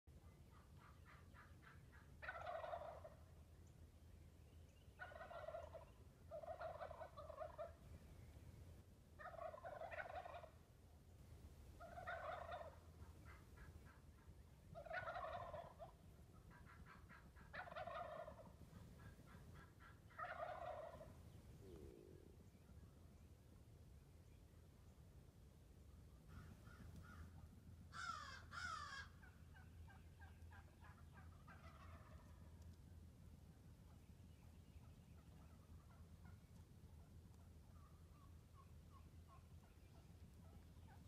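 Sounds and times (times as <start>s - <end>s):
turkey gobbling: 0.3s - 3.7s, 4.4s - 8.4s, 9.2s - 10.8s, 11.6s - 22.6s, 26.2s - 32.7s, 33.9s - 41.0s.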